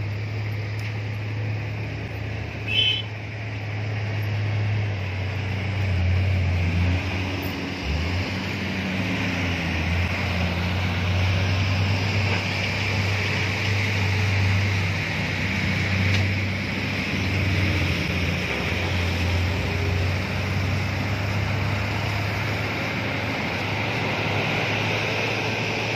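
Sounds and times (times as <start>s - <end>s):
heavy diesel engines droning: 0.0s - 25.9s.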